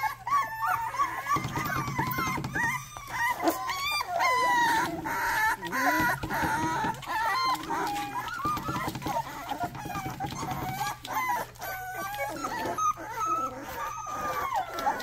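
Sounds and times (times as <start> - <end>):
puppies whining and squealing: 0.0 - 15.0.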